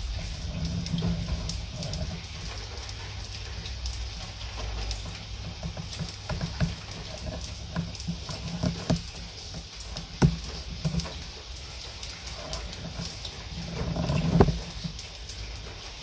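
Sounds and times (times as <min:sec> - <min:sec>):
drips striking a surface: 0:00.0 - 0:15.4
low continuous rumble: 0:00.0 - 0:16.0
steady rain falling: 0:00.0 - 0:16.0.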